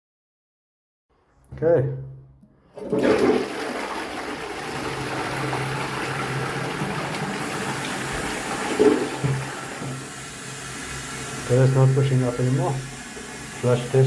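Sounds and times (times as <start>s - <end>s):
toilet flushing: 2.6s - 14.0s.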